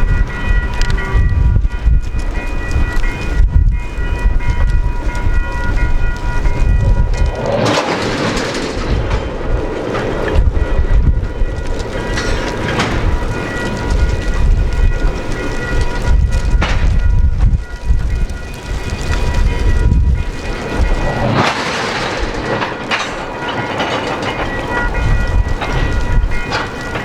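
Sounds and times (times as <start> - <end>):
diesel train engine rumble: 0.0 - 27.0
wheels clattering over rail: 2.0 - 27.0.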